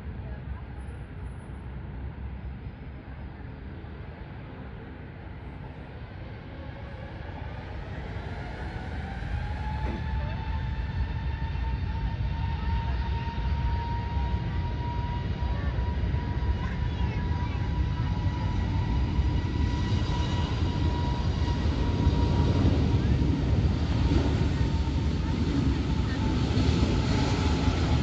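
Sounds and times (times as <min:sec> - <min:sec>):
jet engine rumble: 0:00.0 - 0:28.0
jet engine whine: 0:00.0 - 0:28.0.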